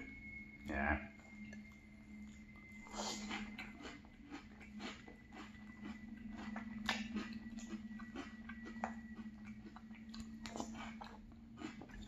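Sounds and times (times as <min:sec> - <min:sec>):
crunchy cereal being chewed: 0:01.5 - 0:12.0.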